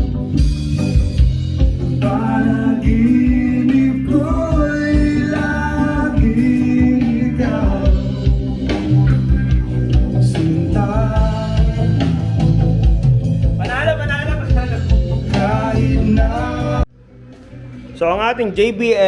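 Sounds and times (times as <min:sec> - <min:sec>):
song from loudspeaker: 0:00.0 - 0:16.8.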